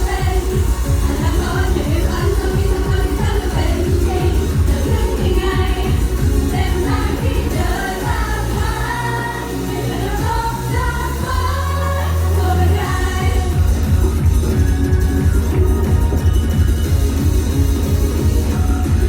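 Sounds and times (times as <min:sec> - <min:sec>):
pop backing track with heavy bass: 0:00.0 - 0:19.0.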